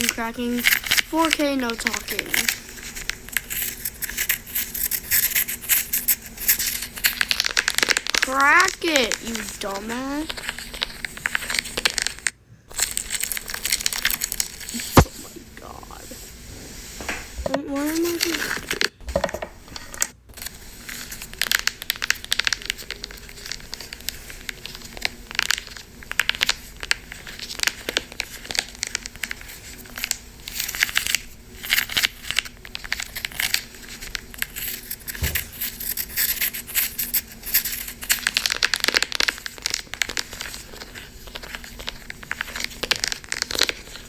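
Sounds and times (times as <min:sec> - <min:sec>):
wax slime crackling: 0:00.0 - 0:17.0, 0:17.6 - 0:19.0, 0:19.6 - 0:44.0.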